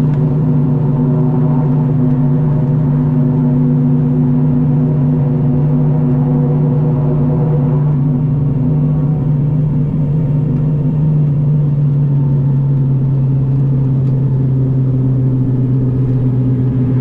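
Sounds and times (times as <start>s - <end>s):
propeller drone in cabin: 0.0s - 17.0s.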